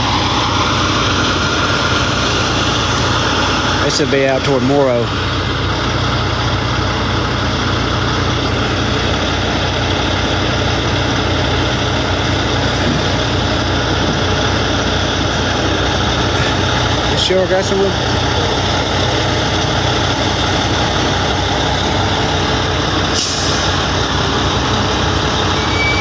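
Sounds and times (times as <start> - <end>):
heavy truck engine running: 0.0 - 26.0.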